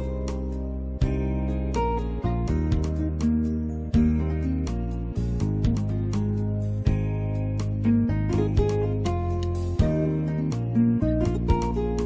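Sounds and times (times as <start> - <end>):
held bass notes: 0.0 - 12.0
plucked guitar notes: 0.0 - 12.0.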